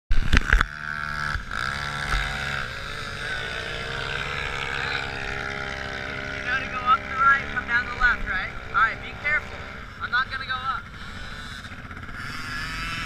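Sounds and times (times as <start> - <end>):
off-road vehicle engine running: 0.1 - 13.0.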